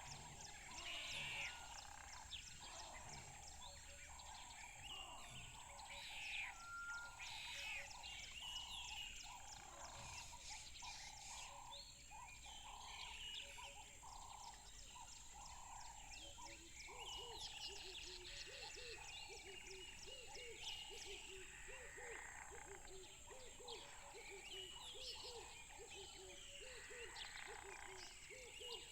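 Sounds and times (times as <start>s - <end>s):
many birds singing and calling: 0.0s - 28.9s.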